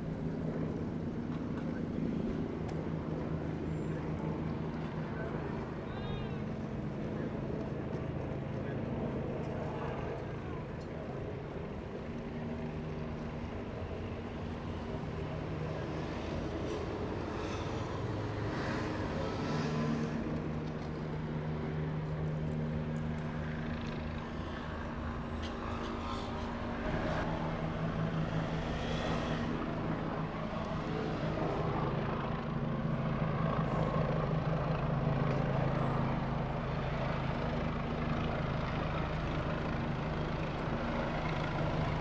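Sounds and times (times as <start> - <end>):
helicopter rotor and engine drone: 0.0 - 42.0.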